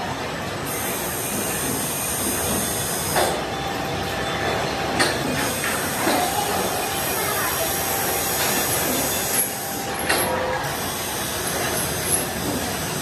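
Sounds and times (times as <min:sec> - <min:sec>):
factory machinery noise: 0:00.0 - 0:13.0.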